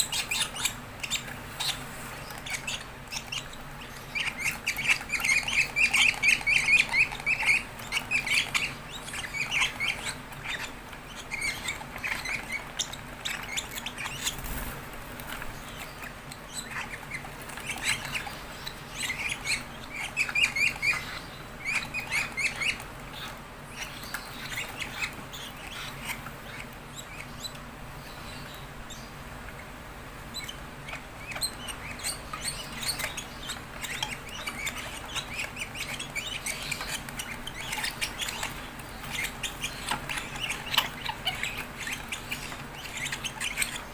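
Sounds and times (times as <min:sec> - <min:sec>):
lovebirds chirping: 0:00.0 - 0:43.9.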